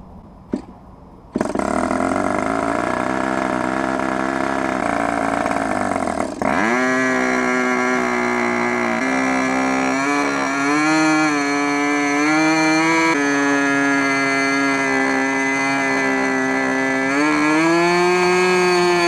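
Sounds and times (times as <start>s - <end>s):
model aircraft engine running: 1.3s - 19.0s.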